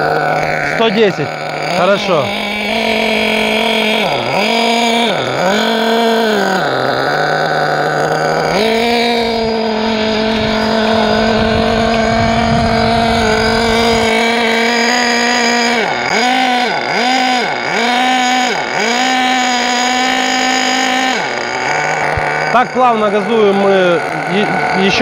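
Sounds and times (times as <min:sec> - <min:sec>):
nitro engine revving: 0:00.0 - 0:25.0.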